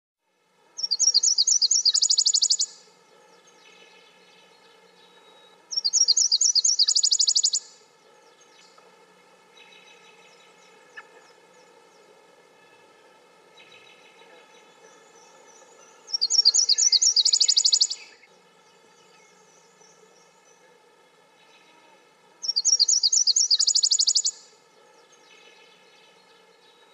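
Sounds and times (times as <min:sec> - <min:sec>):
faint steady hum: 0:00.2 - 0:26.9
warbler singing: 0:00.8 - 0:21.7, 0:22.4 - 0:26.9.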